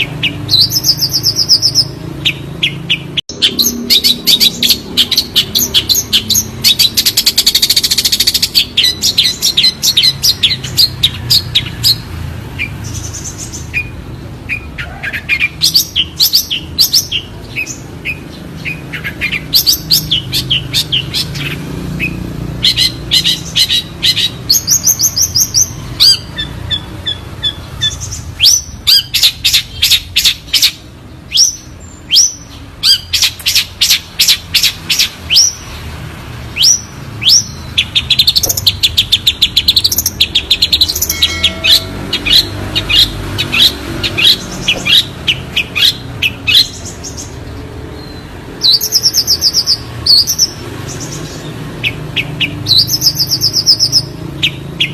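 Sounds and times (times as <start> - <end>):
bird singing whistles and trills: 0.0 - 35.8, 36.5 - 47.4, 48.0 - 54.9.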